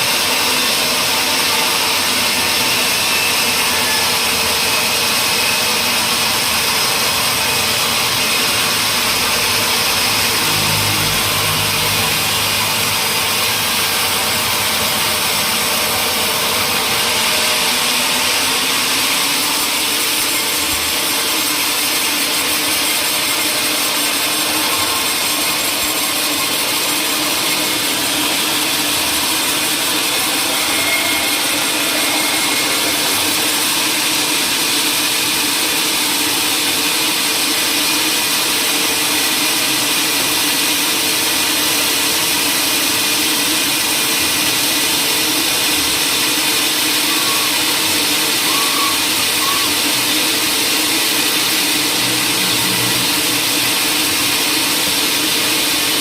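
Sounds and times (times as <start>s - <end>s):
woodworking machinery whirring: 0.0s - 56.0s.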